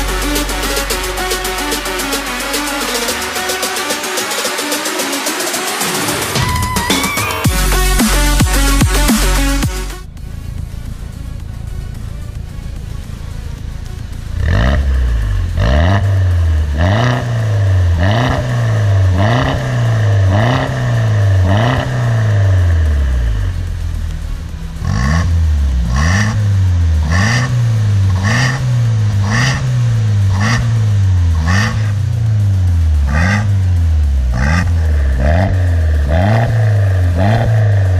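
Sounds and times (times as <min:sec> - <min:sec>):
car engine revving in blips: 0:00.0 - 0:37.9.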